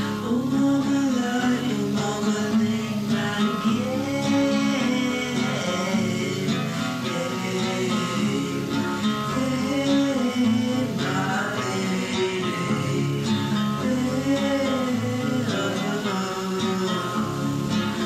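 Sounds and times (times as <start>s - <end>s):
acoustic guitar song: 0.0s - 18.0s
person singing: 0.0s - 18.0s.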